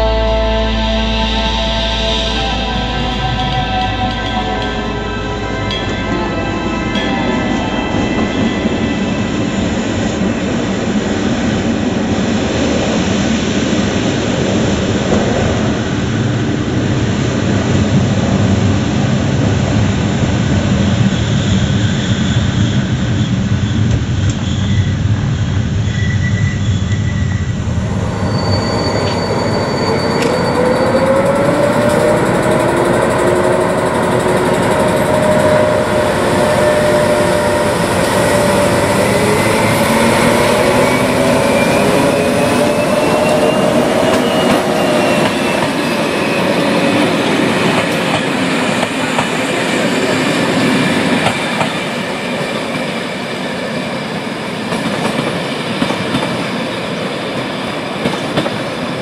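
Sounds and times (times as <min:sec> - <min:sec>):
locomotive whining: 0:00.0 - 0:59.0
train wheels rumbling on rails: 0:00.0 - 0:59.0.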